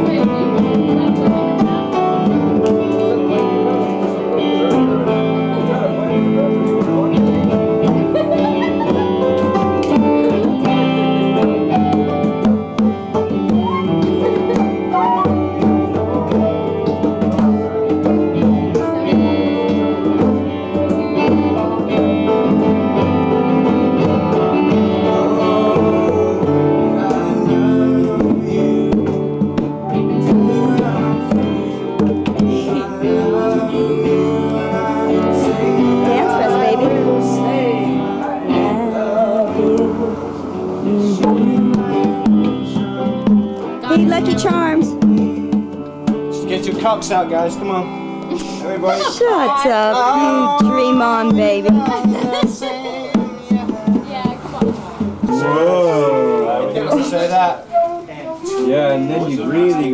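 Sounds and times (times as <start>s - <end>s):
hand percussion: 0.0s - 56.3s
upright piano playing: 0.0s - 57.7s.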